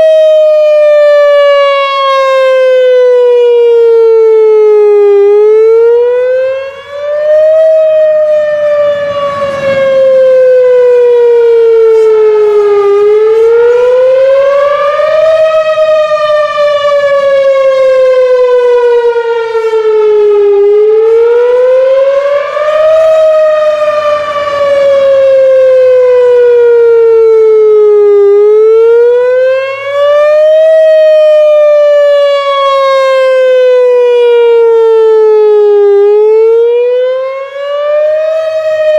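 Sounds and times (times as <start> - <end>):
warning siren rising and falling: 0.0 - 38.9.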